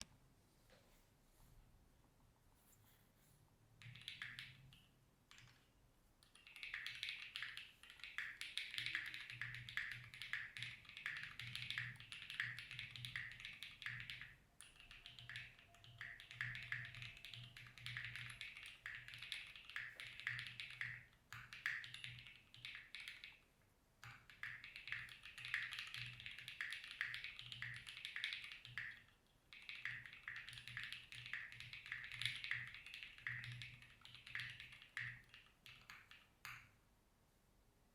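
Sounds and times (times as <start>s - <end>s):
mechanical keyboard typing: 3.8s - 5.6s, 6.2s - 23.4s, 24.0s - 36.6s.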